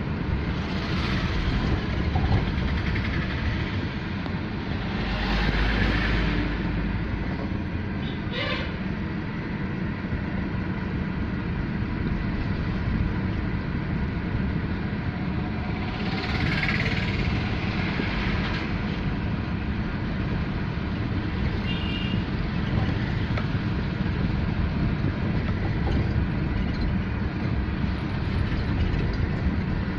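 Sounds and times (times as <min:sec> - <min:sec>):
car engine and road rumble: 0:00.0 - 0:29.9.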